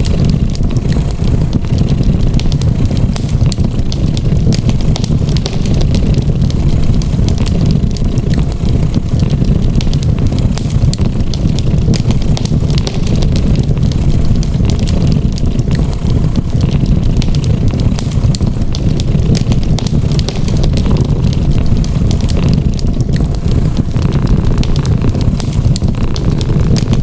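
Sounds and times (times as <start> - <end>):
fireplace fire crackling: 0.0 - 27.0.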